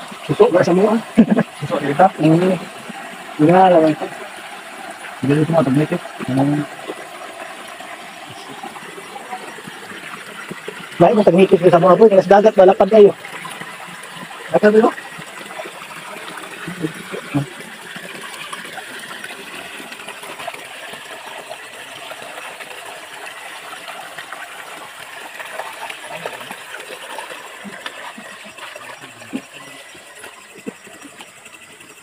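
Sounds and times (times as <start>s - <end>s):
creek water running: 0.0s - 32.0s.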